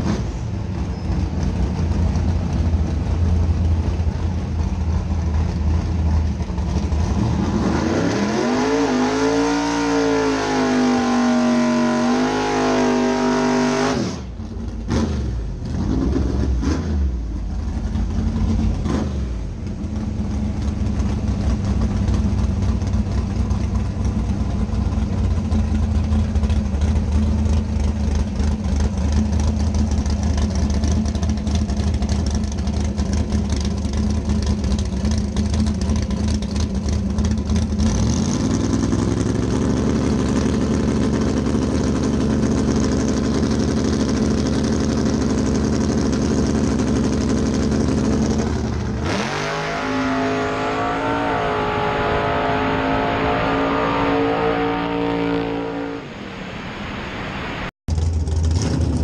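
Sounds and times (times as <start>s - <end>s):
race car engine running: 0.0s - 56.0s, 57.9s - 59.0s.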